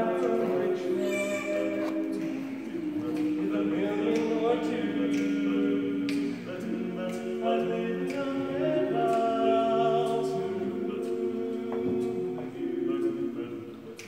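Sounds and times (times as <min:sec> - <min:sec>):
male quartet singing a cappella: 0:00.0 - 0:14.0.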